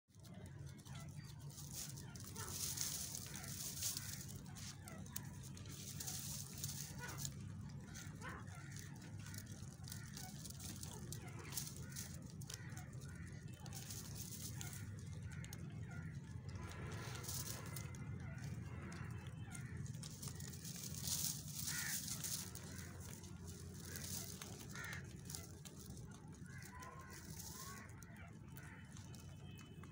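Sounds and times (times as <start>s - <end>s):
rabbit nibbling: 0.1s - 29.7s
bird calls: 0.1s - 29.9s
distant voices: 0.1s - 29.9s
straw rustling and crackling: 0.1s - 29.9s.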